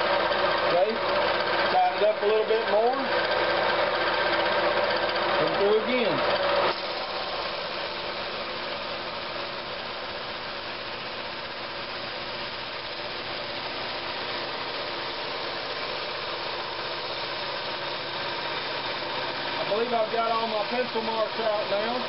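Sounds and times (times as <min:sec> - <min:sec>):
drum sander running: 0:00.0 - 0:22.0
wooden ring being sanded: 0:00.0 - 0:22.0.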